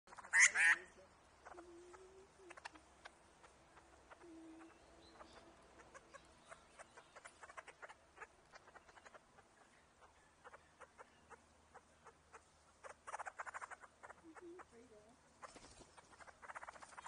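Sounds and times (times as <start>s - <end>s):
bird harsh calls: 0.1s - 14.7s, 15.4s - 17.0s.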